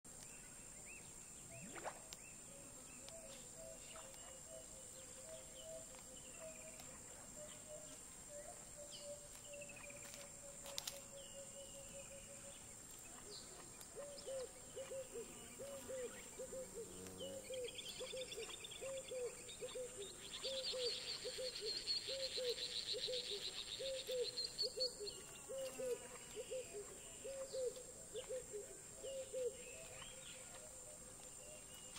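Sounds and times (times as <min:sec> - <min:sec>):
insect drone: 0:00.2 - 0:31.9.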